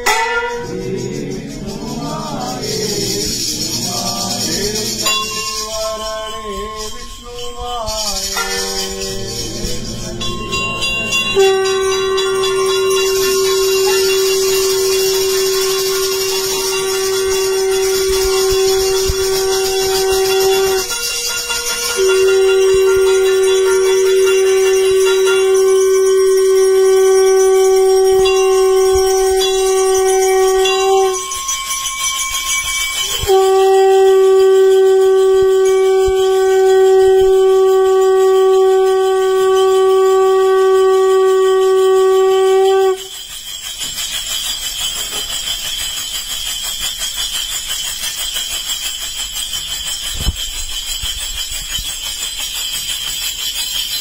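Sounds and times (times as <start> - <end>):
conch shell blasts: 0.0 - 53.9.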